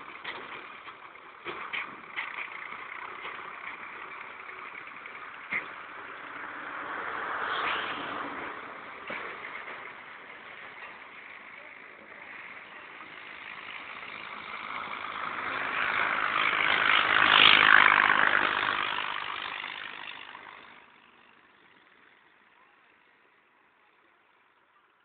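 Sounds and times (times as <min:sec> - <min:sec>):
truck passing close by: 0:00.0 - 0:22.0.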